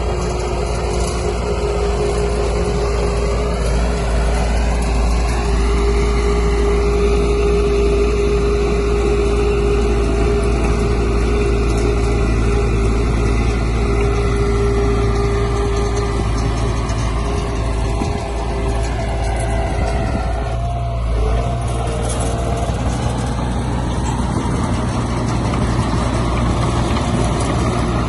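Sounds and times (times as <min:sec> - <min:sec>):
constant whine: 0:00.0 - 0:28.0
heavy diesel engine running: 0:00.0 - 0:28.0.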